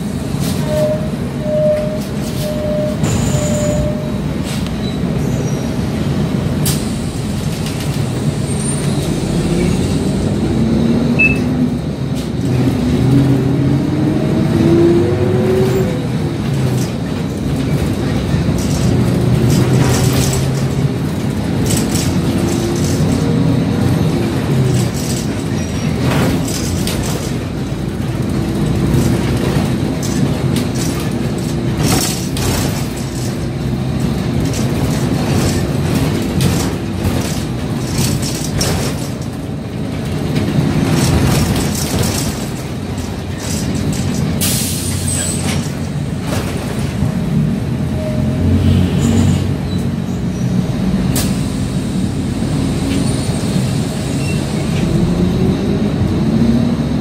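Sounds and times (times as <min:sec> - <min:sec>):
clunks and rattles: 0:00.0 - 0:10.6, 0:11.4 - 0:48.1
bus engine and road noise: 0:00.0 - 0:57.0.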